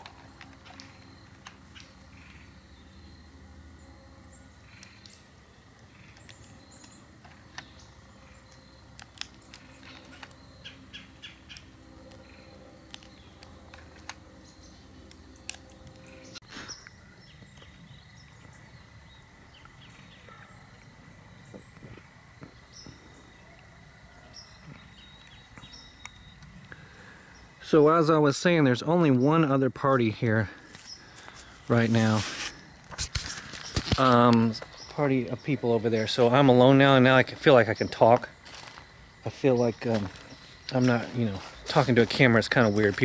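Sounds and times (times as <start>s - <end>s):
faint outdoor ambience: 0.0s - 43.0s.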